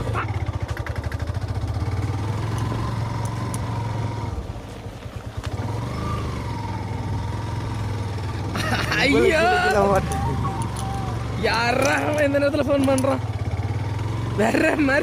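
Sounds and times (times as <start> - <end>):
motorcycle engine under load: 0.0 - 15.0.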